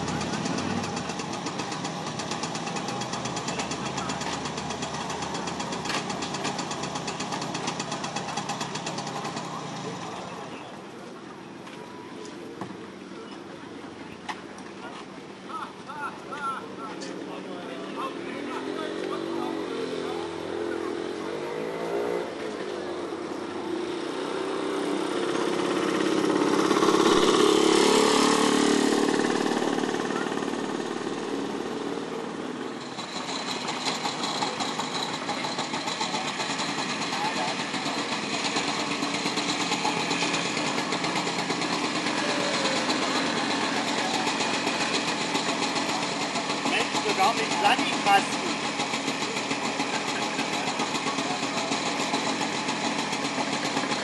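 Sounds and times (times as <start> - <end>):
scooter engine idling: 0.0 - 11.6, 12.5 - 54.0.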